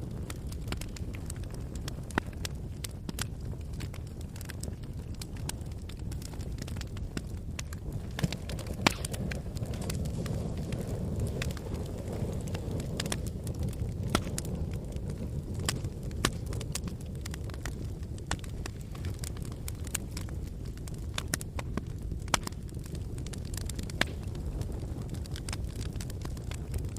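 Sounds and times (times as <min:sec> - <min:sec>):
low steady rumble: 0:00.0 - 0:22.5
fire crackling and popping: 0:00.0 - 0:26.9.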